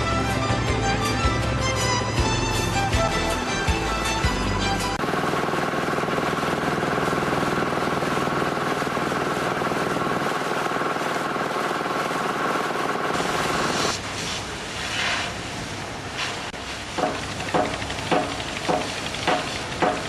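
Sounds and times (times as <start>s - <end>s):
heavy machinery engine drone: 0.0s - 14.7s, 15.6s - 20.0s.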